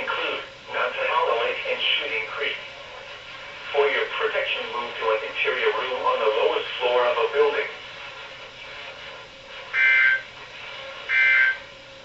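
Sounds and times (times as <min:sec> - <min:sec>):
faint hum: 0:00.0 - 0:12.0
radio receiver hiss: 0:00.0 - 0:12.0.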